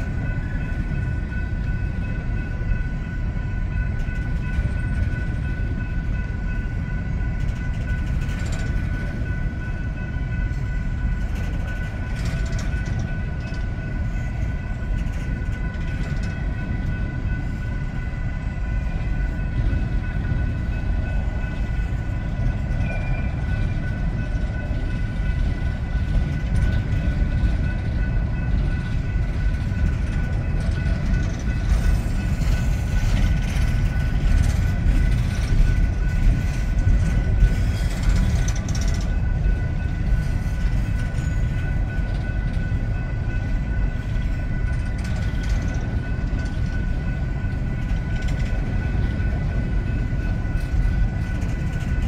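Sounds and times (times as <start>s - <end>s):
freight train wheels rumbling on rail: 0.0s - 52.0s.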